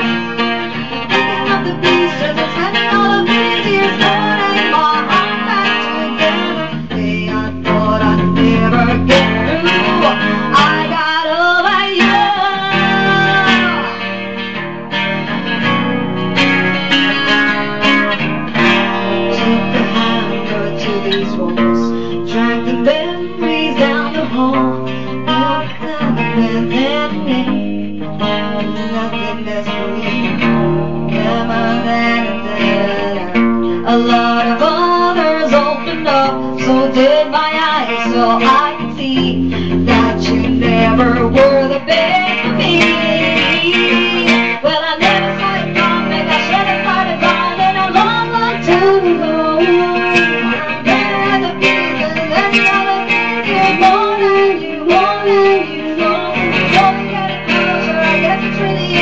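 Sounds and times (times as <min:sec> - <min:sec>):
woman singing: 0:00.0 - 0:14.5, 0:17.0 - 0:59.0
acoustic guitar strumming: 0:00.0 - 0:59.0.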